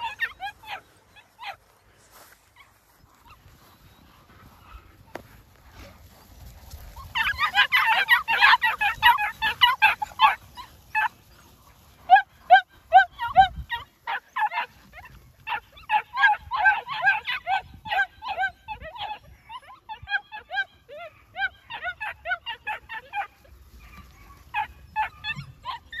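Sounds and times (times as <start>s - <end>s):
puppies yapping: 0.0s - 1.8s, 2.4s - 26.0s.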